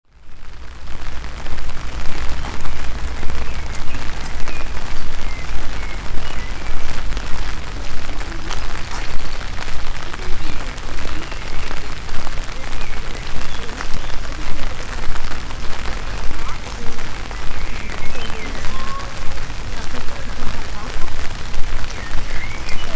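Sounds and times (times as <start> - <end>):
rain falling: 0.0 - 22.9
low rumble: 0.1 - 22.9
raindrops ticking: 0.1 - 22.9.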